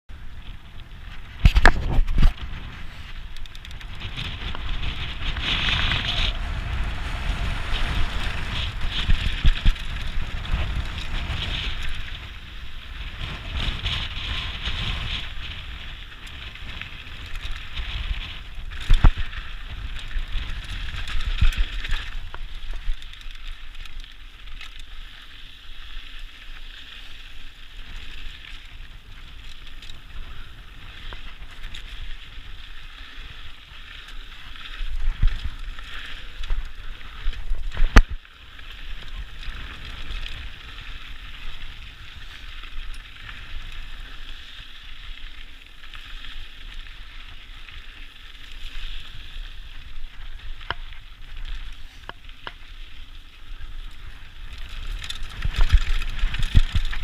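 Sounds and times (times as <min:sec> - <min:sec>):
bike rattling over bumps: 0:00.1 - 0:57.0
bike tyres on dirt: 0:00.1 - 0:57.0
wind rumbling on microphone: 0:00.1 - 0:57.0.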